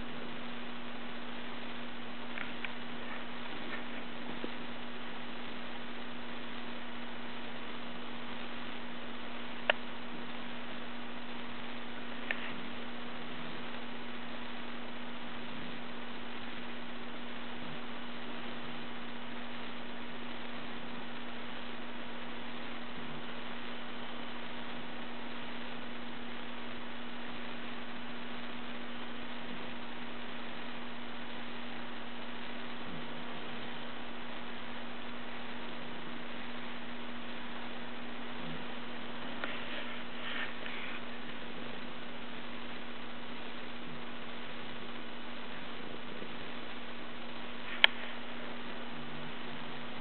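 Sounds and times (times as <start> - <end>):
low hum: 0.0 - 50.0
steady hiss: 0.0 - 50.0.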